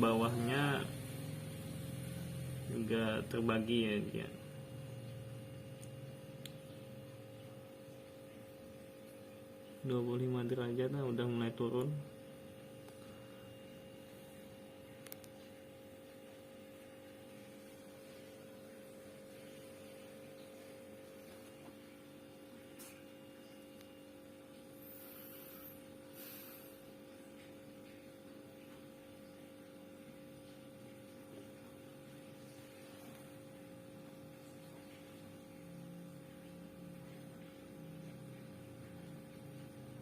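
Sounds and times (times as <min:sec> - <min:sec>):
refrigerator compressor humming: 0:00.0 - 0:40.0.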